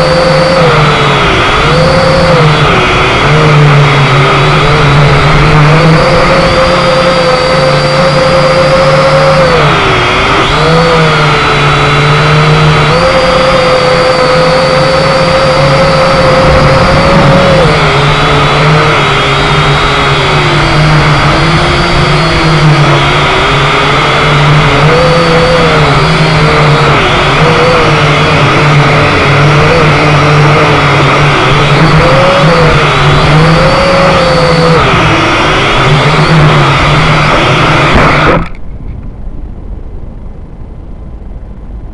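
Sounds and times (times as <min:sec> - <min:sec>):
quadcopter motors whining: 0:00.0 - 0:38.7.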